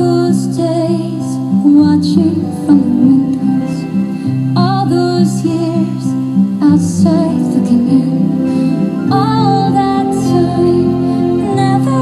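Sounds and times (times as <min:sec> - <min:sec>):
slow music with bass: 0:00.0 - 0:12.0.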